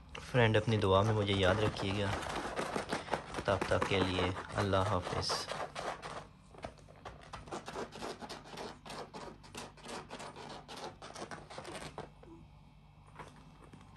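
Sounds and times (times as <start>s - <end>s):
parrot claws scratching on floor: 0.6s - 12.2s.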